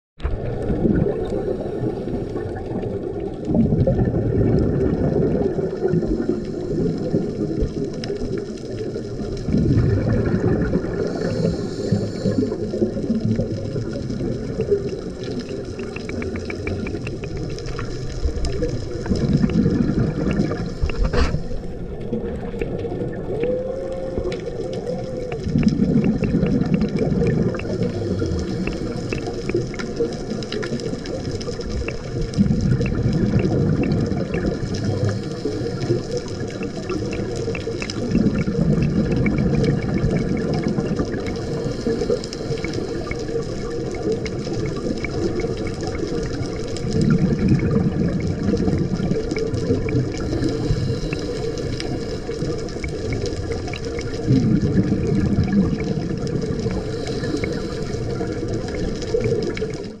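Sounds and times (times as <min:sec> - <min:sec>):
exhaled bubbles rumbling: 0:00.2 - 1:00.0
underwater watery hiss: 0:00.7 - 1:00.0.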